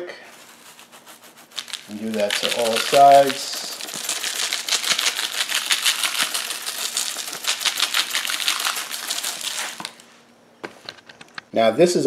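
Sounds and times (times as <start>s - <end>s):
seasoning shaker rattling: 0.3s - 10.0s.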